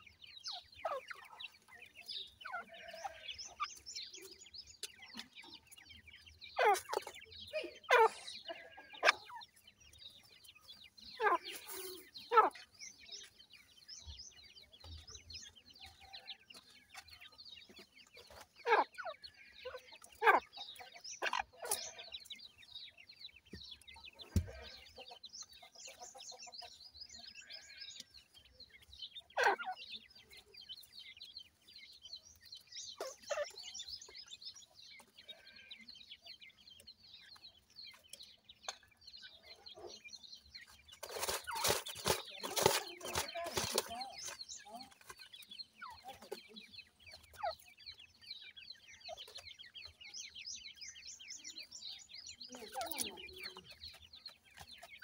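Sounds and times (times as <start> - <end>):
chicks cheeping: 0.0 - 55.0.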